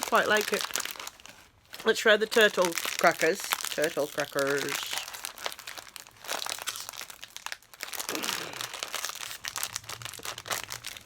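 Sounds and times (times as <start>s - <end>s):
plastic snack packet crinkling: 0.0s - 11.0s.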